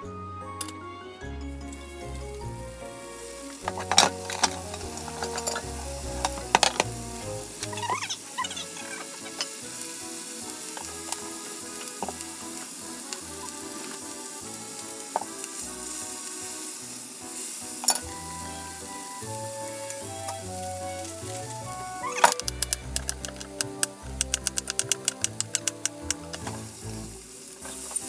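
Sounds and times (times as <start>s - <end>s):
pork sizzling in a pan: 1.8s - 28.0s.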